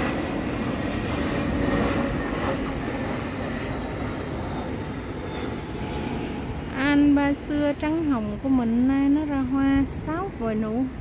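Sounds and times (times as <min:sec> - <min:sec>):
airplane flying overhead: 0:00.0 - 0:11.0.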